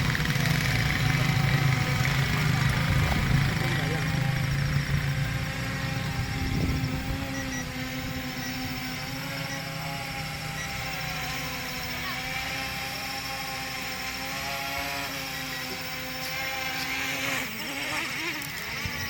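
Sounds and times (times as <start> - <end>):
drone propellers humming: 0.0 - 19.0.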